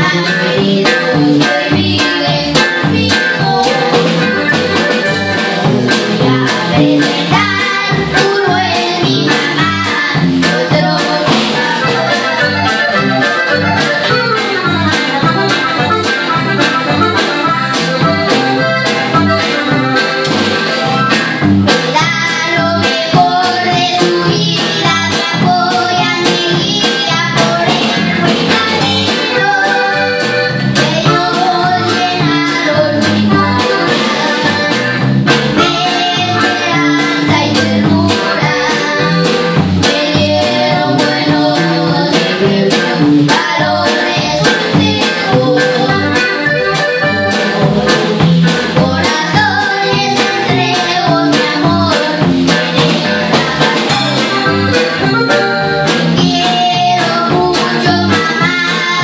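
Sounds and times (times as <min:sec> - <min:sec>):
boys singing: 0:00.0 - 0:15.8, 0:21.7 - 0:46.4, 0:47.3 - 0:59.0
button accordion: 0:00.0 - 0:59.0
drum kit beat: 0:00.0 - 0:59.0.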